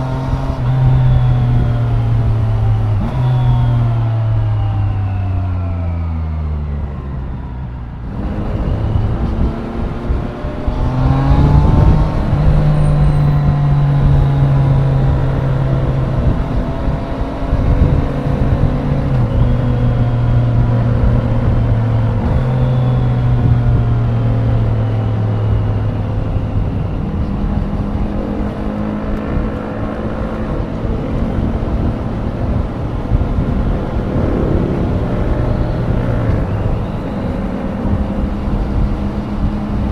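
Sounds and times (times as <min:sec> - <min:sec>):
motorcycle engine revving: 0:00.0 - 0:39.9
wind buffeting microphone: 0:06.7 - 0:39.9.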